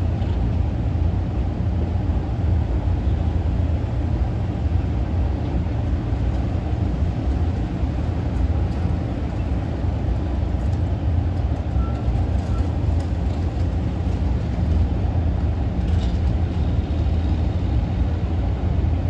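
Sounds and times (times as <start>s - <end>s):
ferry engines rumbling: 0.0s - 19.0s.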